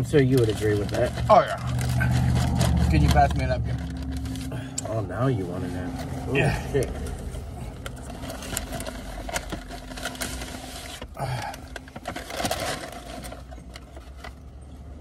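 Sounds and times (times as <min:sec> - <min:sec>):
paper bag crinkling: 0:00.0 - 0:14.6.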